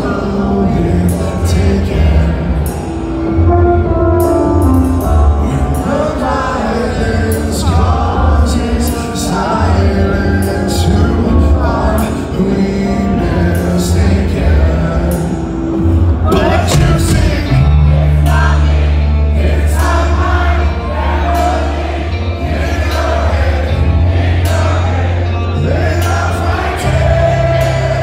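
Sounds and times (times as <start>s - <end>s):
man singing: 0.0s - 3.9s, 4.9s - 28.0s
heavy metal band playing live: 0.0s - 28.0s.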